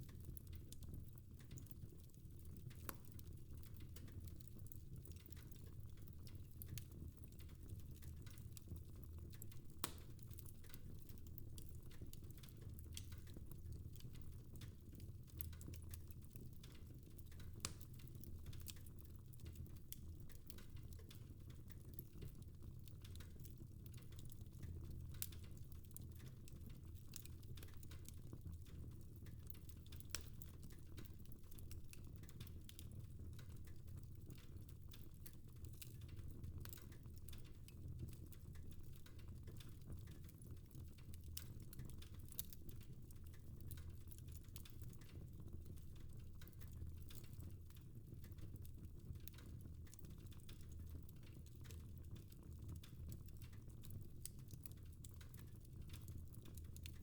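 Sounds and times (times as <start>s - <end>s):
fire crackling with small pops: 0.0s - 57.0s.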